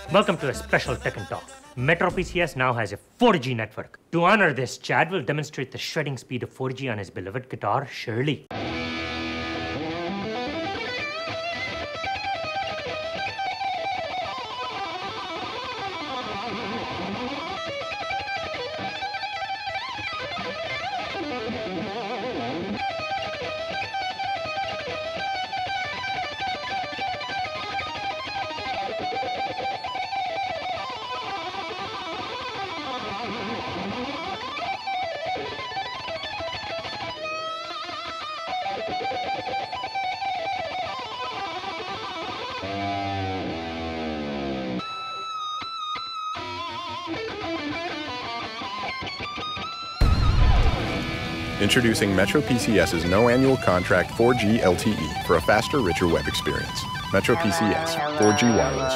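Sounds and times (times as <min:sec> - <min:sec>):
electric guitar shred solo: 0:08.5 - 0:58.9.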